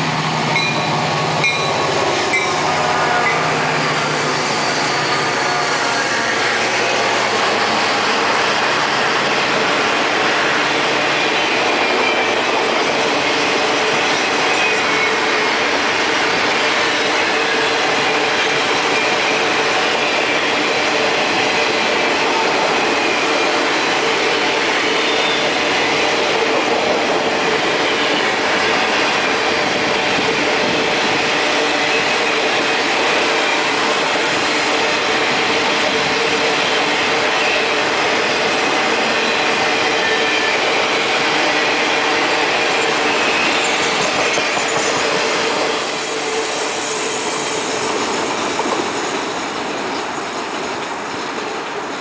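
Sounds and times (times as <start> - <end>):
diesel locomotive engine: 0.0 - 52.0
steel wheels on rail: 0.0 - 52.0.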